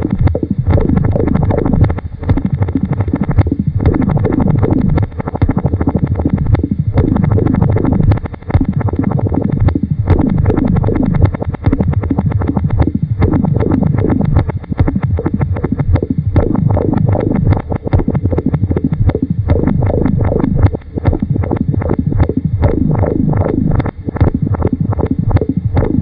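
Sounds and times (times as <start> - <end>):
downward-sliding synthesizer tones: 0.0 - 26.0
rapid pulsing electronic buzz: 0.0 - 26.0.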